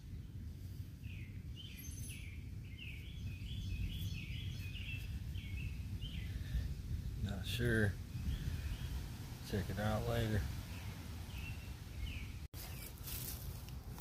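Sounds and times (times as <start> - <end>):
steady low rumble: 0.0 - 12.5
songbird chirping: 1.0 - 13.4.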